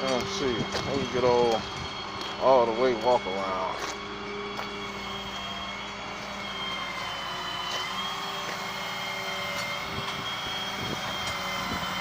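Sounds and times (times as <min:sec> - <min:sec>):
mechanical drone with high whine: 0:00.0 - 0:12.0.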